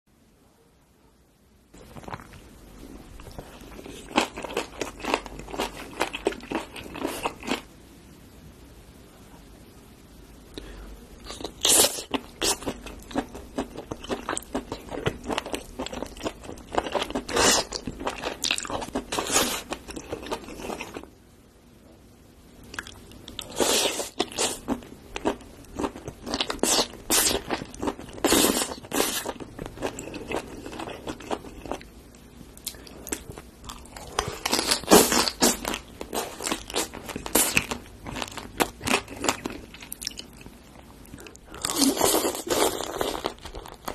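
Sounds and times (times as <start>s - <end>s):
person chewing and crunching food: 1.8s - 7.7s, 10.6s - 21.1s, 22.6s - 43.9s.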